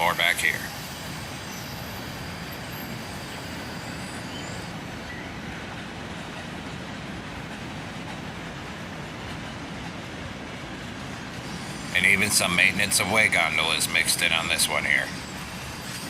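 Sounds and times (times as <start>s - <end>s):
freight train rolling past: 0.0s - 16.0s
steel wheels on rail: 0.0s - 16.0s.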